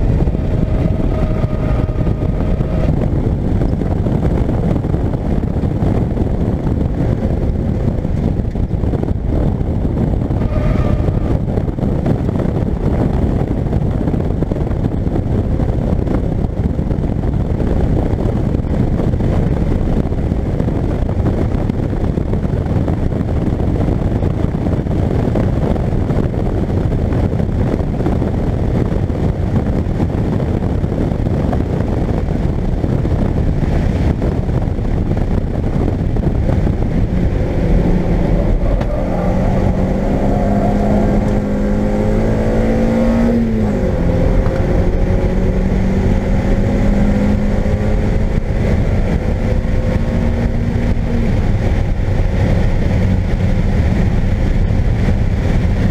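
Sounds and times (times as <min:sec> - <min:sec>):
car engine at high revs: 0:00.0 - 0:55.9
road noise: 0:00.0 - 0:55.9
wind noise: 0:00.0 - 0:55.9.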